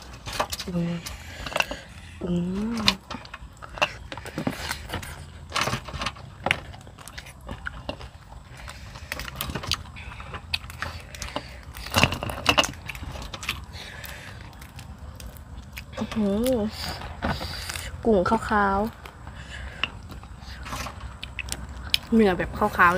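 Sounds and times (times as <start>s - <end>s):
eating sounds: 0.0s - 22.9s
prawn shells cracking: 0.0s - 22.9s.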